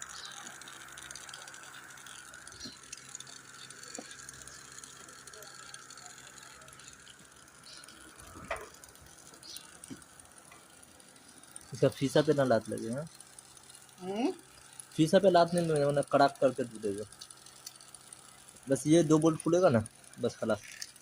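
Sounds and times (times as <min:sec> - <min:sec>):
hand tools clicking on engine: 0:00.0 - 0:21.0
steady low hum: 0:00.0 - 0:21.0.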